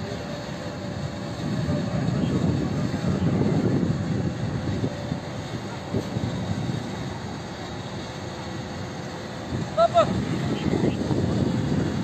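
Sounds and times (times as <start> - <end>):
propeller aircraft engines droning: 0.0 - 12.0.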